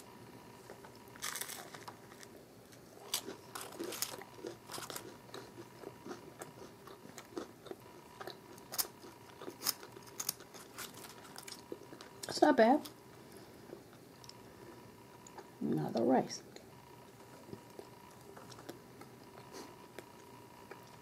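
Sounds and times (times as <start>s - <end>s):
crunching and chewing fried chicken: 0.6s - 15.6s, 16.5s - 21.0s.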